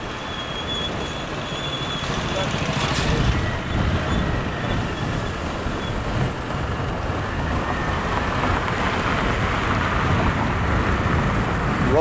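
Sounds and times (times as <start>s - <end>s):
road noise: 0.0s - 12.0s
wind rumble on microphone: 2.0s - 12.0s.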